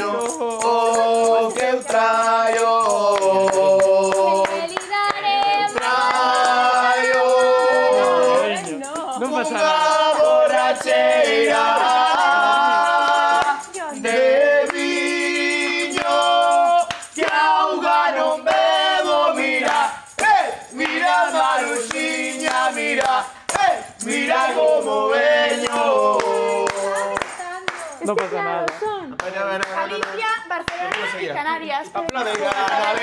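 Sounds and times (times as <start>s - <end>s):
group singing folk song: 0.0s - 28.6s, 32.3s - 33.0s
rattling percussion beat: 0.0s - 29.0s.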